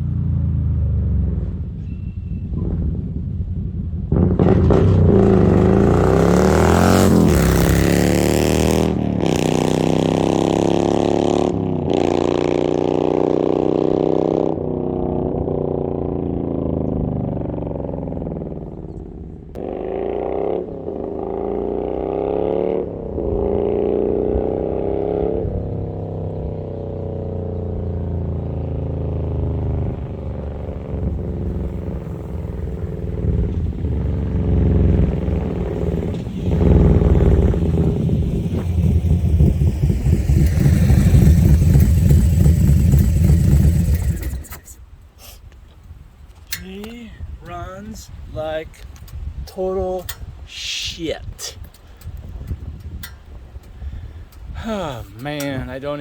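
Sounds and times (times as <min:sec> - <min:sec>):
motorcycle accelerating hard: 0:00.0 - 0:44.9.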